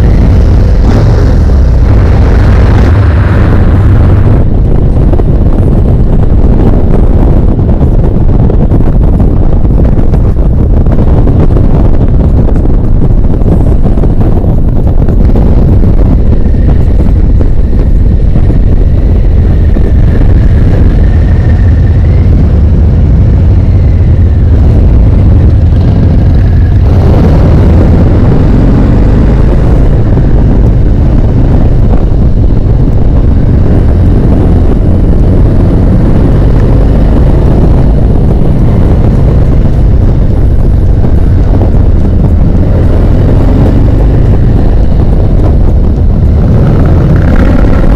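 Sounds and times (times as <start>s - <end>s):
motorcycle engine rumble: 0.0s - 47.9s.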